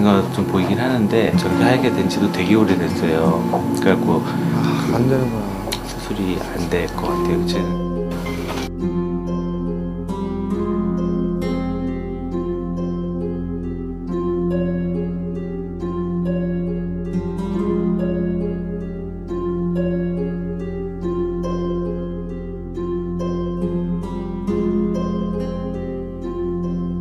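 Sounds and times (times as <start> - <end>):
held low notes: 0.0 - 27.0
plucked harp notes: 0.0 - 27.0.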